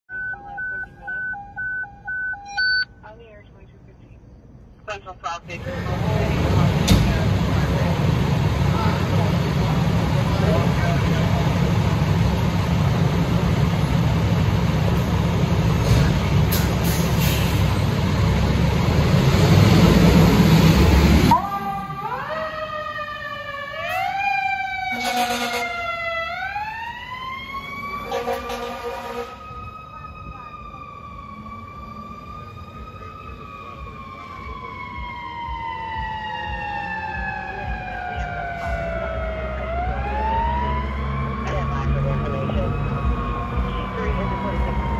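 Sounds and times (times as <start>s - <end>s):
diesel engine rumbling: 0.1s - 44.9s.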